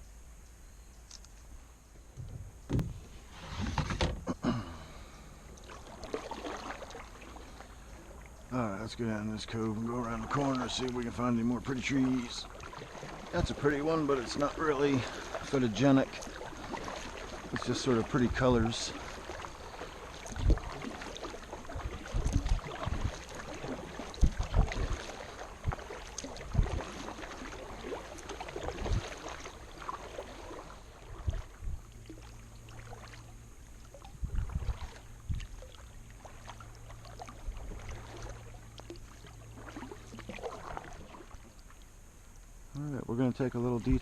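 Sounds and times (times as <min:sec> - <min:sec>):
low steady hum: 0:00.0 - 0:44.0
paddle splashing water: 0:02.0 - 0:42.6.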